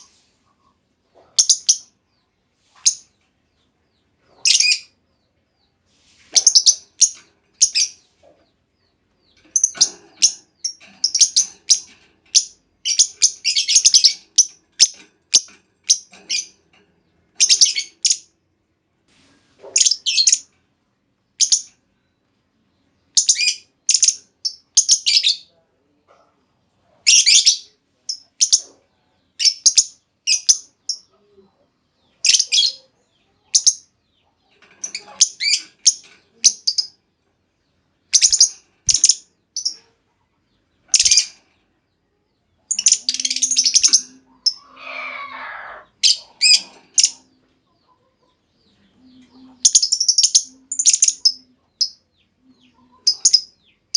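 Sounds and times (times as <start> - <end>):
lovebird chirping: 0.0 - 16.6, 17.4 - 18.3, 19.6 - 20.6, 21.4 - 25.5, 27.0 - 37.0, 38.1 - 53.9.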